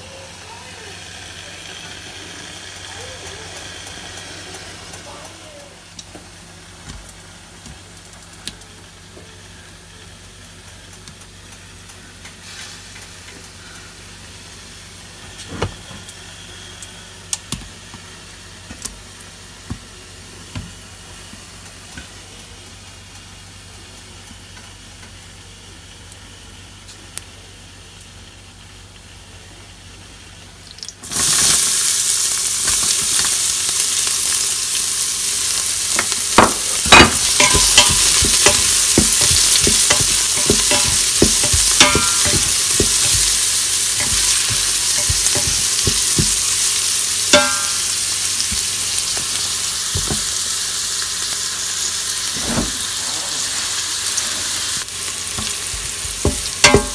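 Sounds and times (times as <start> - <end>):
onions sizzling in hot oil: 0.0 - 56.9.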